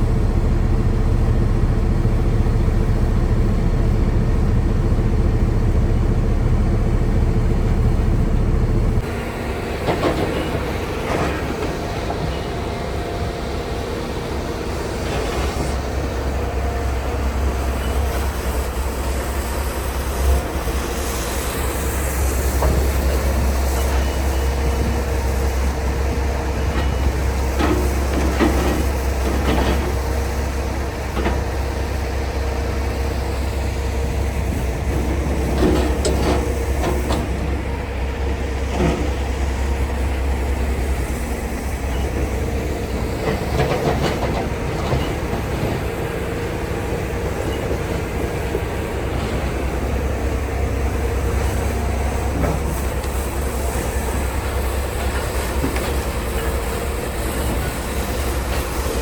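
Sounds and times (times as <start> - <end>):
truck engine and road drone: 0.0 - 59.0.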